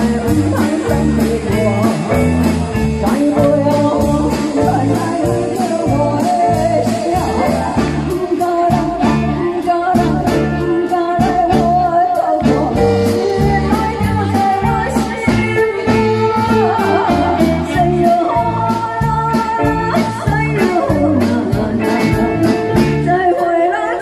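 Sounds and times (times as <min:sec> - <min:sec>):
steady drum beat: 0:00.0 - 0:23.4
guitar: 0:00.0 - 0:24.0
live band playing: 0:00.0 - 0:24.0
woman singing into a microphone: 0:00.0 - 0:24.0.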